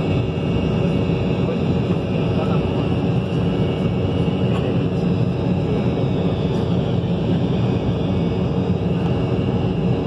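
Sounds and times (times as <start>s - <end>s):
jet engine drone: 0.0s - 10.0s.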